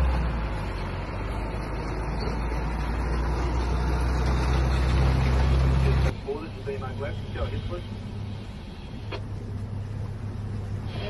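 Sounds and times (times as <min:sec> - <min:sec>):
boat engines idling: 0:00.0 - 0:11.0.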